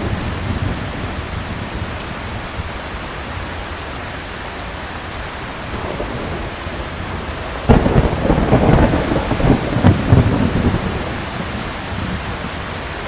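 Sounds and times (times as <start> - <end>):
thunderclap and rumble: 0.0 - 3.6, 5.4 - 13.0
heavy rain falling: 0.0 - 13.0.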